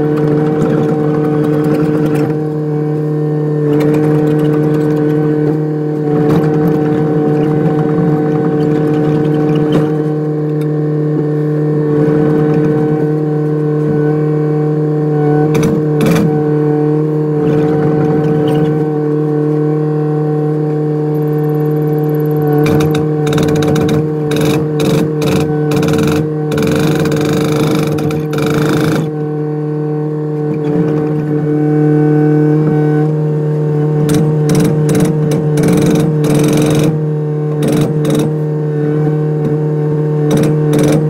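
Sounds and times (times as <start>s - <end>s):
excavator engine and hydraulics hum: 0.0s - 41.0s.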